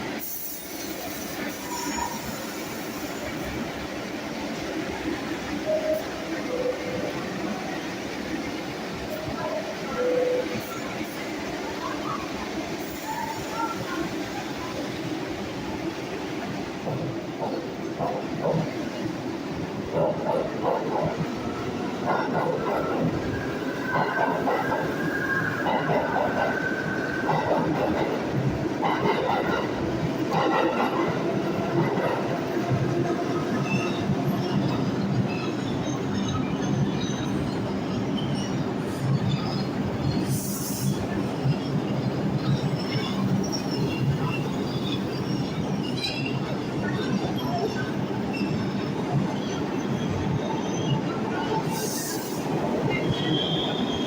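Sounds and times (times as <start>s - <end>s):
subway train rumble: 0.0s - 54.0s
wheels squealing on rails: 0.1s - 3.8s, 9.0s - 15.2s, 20.3s - 54.0s.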